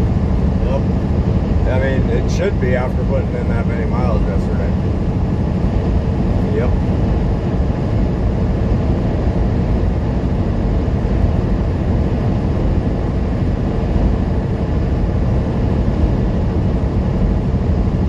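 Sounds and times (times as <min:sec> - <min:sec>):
diesel truck engine drone: 0:00.0 - 0:18.0.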